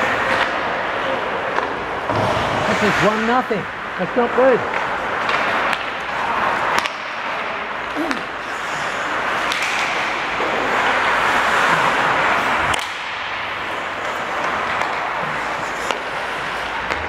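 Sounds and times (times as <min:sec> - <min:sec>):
hockey sticks and puck clacking: 0:00.0 - 0:17.0.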